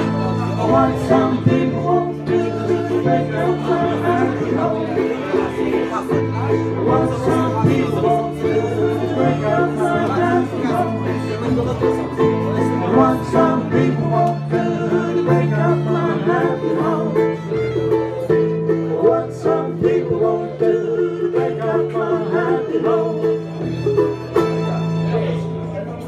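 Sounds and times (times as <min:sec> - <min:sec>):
strummed acoustic guitar: 0:00.0 - 0:25.0
fiddle: 0:00.0 - 0:26.0.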